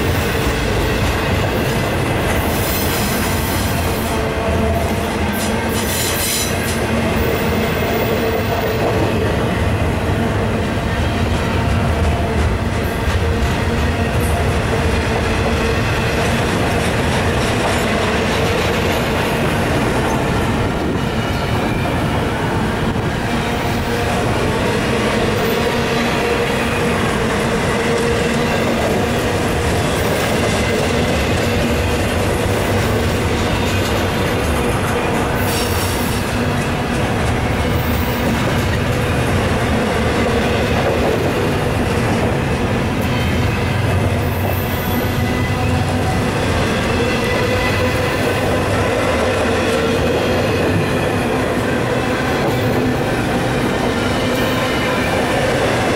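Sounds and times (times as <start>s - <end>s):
steel wheels rolling on rails: 0.0s - 55.9s.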